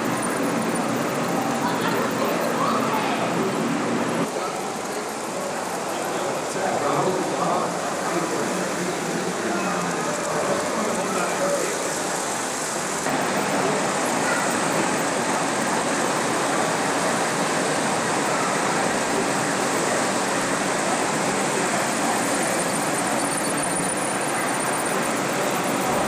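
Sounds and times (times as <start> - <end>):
model trains whirring on track: 0.0 - 26.0.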